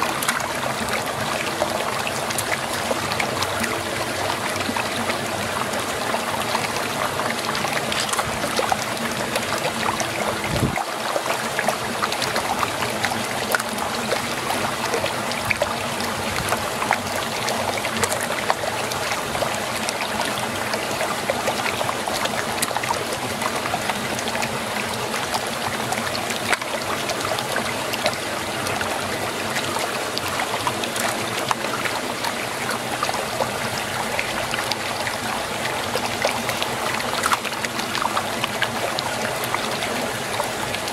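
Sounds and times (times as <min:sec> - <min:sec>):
small water splashes: 0:00.0 - 0:40.9
water swirling and gurgling: 0:00.0 - 0:40.9.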